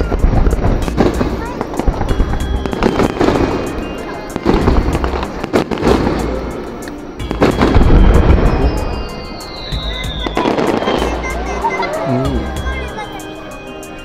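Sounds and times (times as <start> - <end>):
firework shells bursting: 0.0 - 11.4
background music: 0.0 - 14.0
firework crackle: 0.0 - 14.0.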